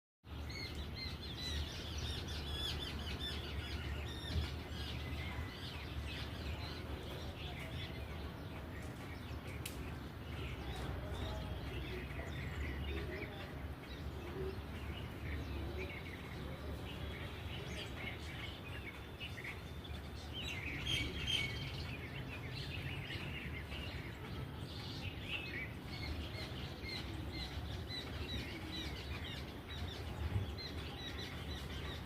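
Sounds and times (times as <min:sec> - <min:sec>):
small birds chirping: 0:00.3 - 0:32.0.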